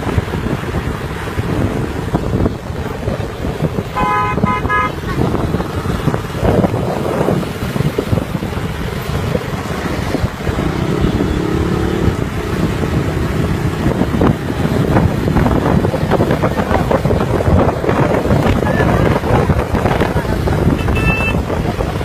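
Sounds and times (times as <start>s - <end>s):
motorcycle and traffic engines: 0.0s - 22.0s
wind buffeting microphone: 0.0s - 22.0s.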